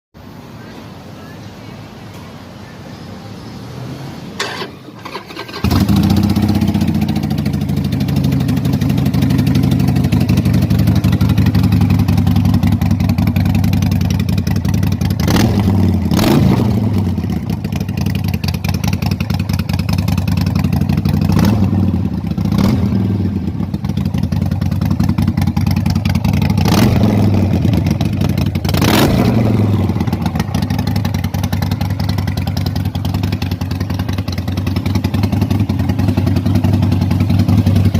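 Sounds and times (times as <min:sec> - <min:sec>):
motorcycle engine revving: 0:03.8 - 0:37.9.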